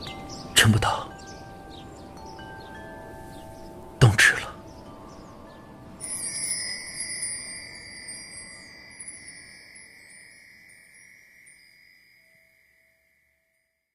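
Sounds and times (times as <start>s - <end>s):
chimes ringing: 0.0s - 13.9s.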